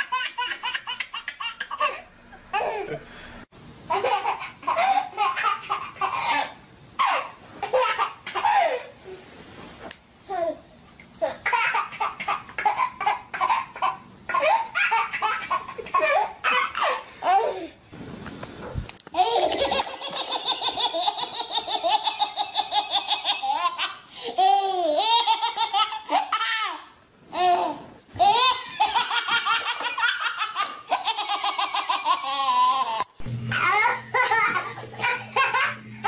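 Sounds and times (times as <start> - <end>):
baby laughing: 0.0 - 3.0, 3.9 - 8.9, 11.2 - 17.7, 19.2 - 36.0.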